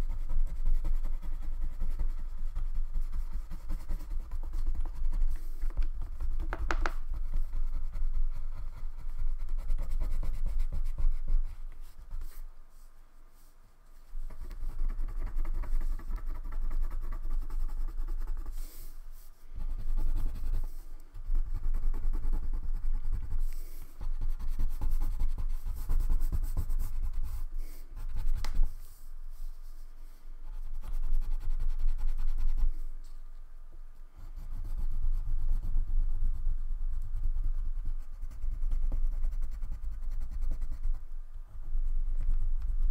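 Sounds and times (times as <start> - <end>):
crayon scribbling on paper: 0.0 - 12.5, 14.1 - 29.8, 30.4 - 32.9, 34.2 - 41.0.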